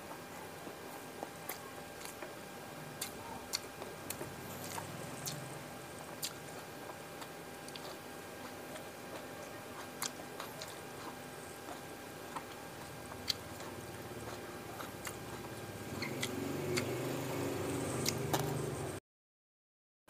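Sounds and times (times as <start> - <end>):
close chewing of fried fish: 0.0 - 18.8.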